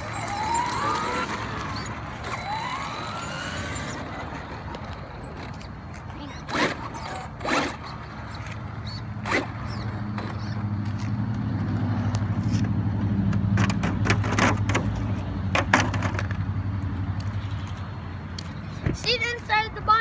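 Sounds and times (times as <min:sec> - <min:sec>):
engine running: 0:00.0 - 0:18.8.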